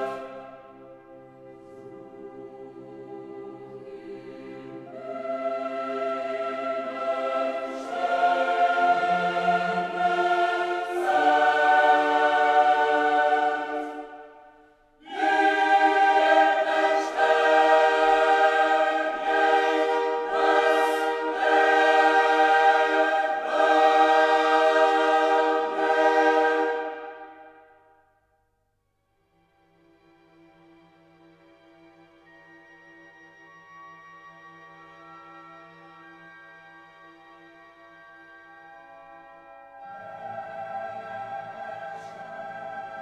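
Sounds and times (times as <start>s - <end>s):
choir singing sustained chords: 0.0s - 28.1s, 31.8s - 43.0s.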